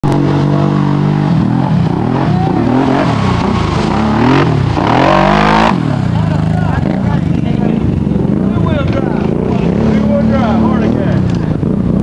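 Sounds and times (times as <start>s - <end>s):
atv engine revving: 0.0s - 12.0s
quad churning through mud: 0.0s - 12.0s.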